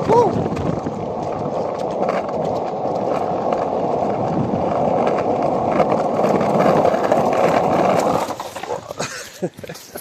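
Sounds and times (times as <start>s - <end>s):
skateboard clicks over cracks: 0.0s - 9.0s
skateboard wheels rolling on pavement: 0.0s - 10.0s.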